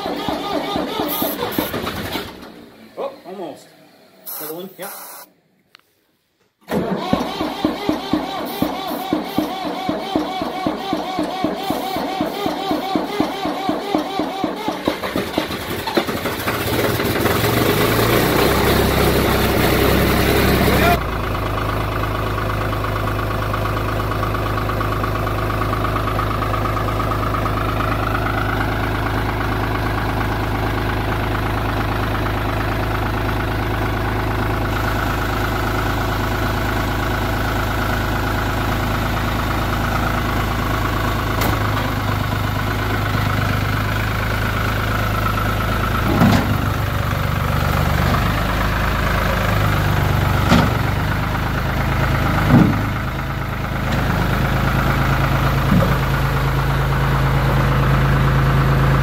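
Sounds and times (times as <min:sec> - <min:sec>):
tractor engine idling: 0:00.0 - 0:05.0, 0:06.7 - 0:59.0.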